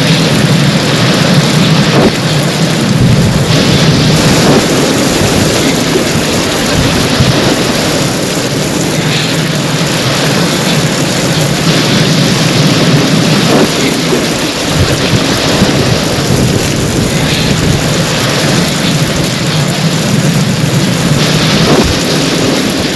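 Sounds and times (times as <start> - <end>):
heavy rain downpour: 0.0 - 22.9
low rumble of thunder: 0.0 - 22.9.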